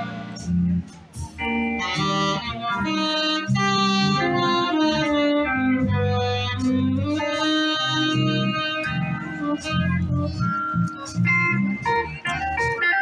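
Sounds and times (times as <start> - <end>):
electric guitar: 0.0 - 13.0
saxophone-led party band: 0.0 - 13.0.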